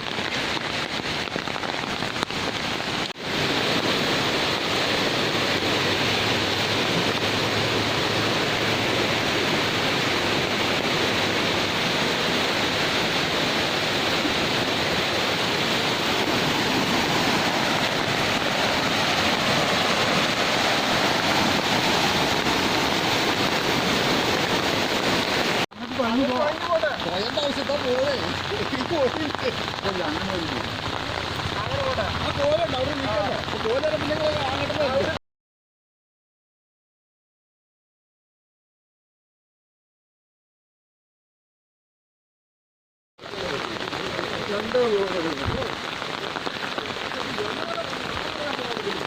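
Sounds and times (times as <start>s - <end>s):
heavy rain falling: 0.0s - 35.2s, 43.2s - 49.0s.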